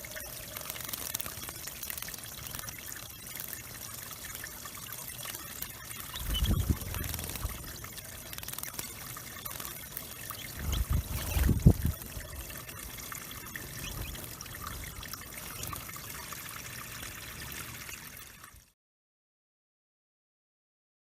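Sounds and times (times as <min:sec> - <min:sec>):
water trickling into pond: 0:00.0 - 0:18.8.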